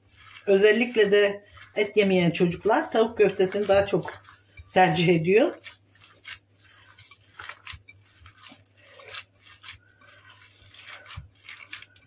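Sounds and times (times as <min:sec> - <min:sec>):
hands squishing minced meat: 0:00.0 - 0:12.0.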